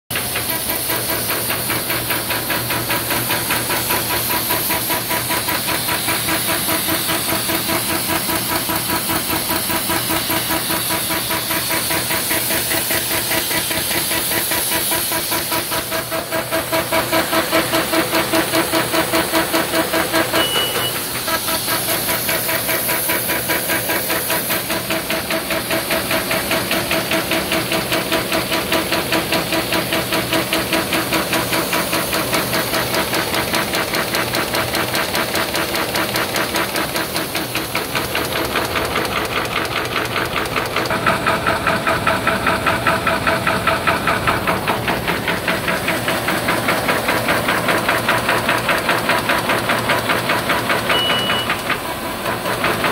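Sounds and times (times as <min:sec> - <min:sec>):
paper folding machine clatter: 0:00.1 - 0:52.9.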